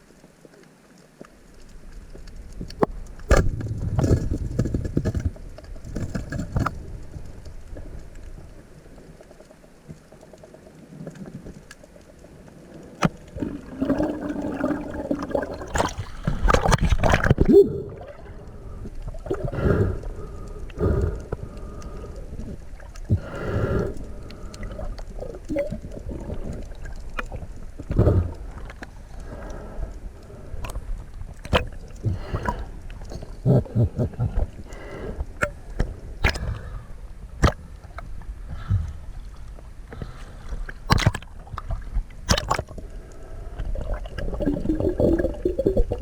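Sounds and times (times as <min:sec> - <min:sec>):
water sloshing and gurgling: 0:00.0 - 0:46.0.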